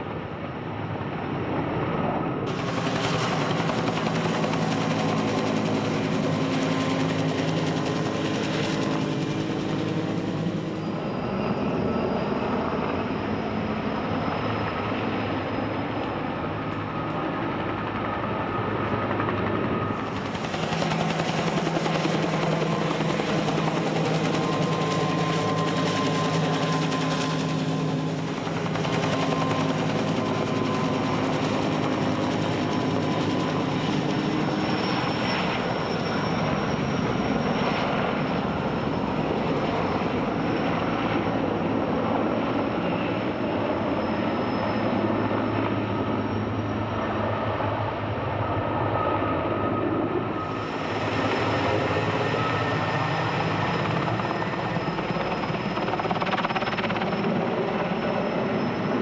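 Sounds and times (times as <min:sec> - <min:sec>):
helicopter rotor and engine noise: 0:00.0 - 0:59.0.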